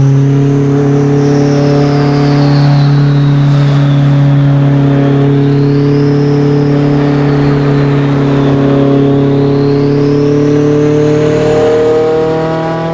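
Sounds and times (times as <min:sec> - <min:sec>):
car engine running: 0:00.0 - 0:12.9
turbocharger whistling: 0:00.0 - 0:12.9.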